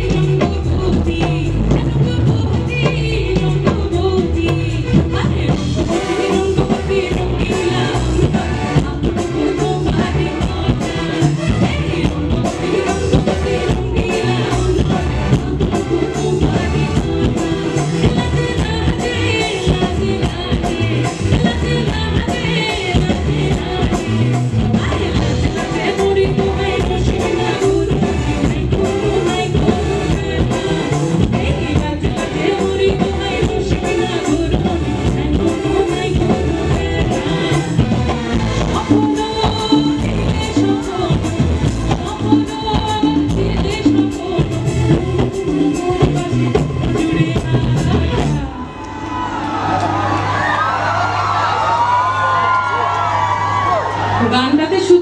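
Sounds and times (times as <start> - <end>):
drum kit beat: 0.0 - 48.5
woman singing into microphone: 0.0 - 49.0
live band playing: 0.0 - 55.0.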